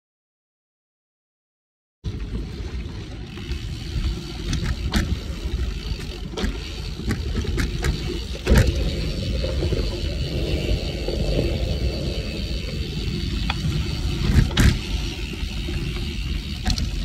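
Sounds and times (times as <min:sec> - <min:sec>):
bike rattling over bumps: 0:02.1 - 0:17.0
bike tyres rumbling on dirt: 0:02.1 - 0:17.0.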